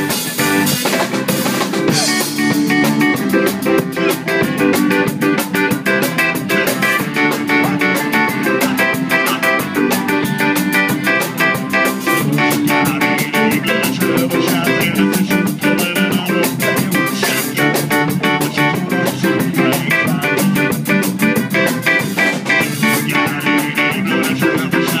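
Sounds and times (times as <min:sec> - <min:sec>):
ska band playing: 0:00.0 - 0:25.0.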